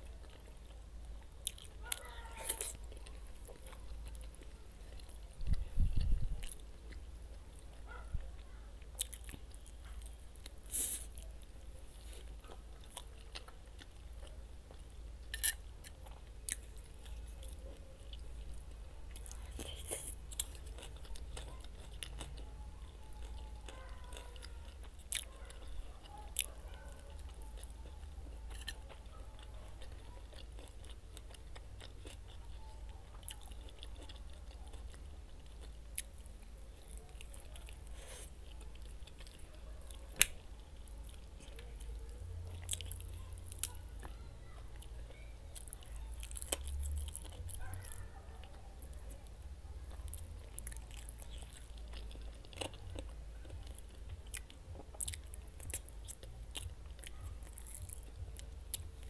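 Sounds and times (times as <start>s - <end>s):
close chewing and biting: 0.0s - 59.0s
food crunching: 0.0s - 59.0s.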